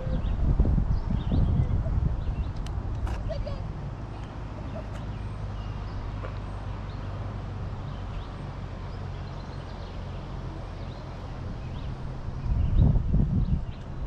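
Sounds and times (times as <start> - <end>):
low rumble of distant traffic: 0.0 - 14.0.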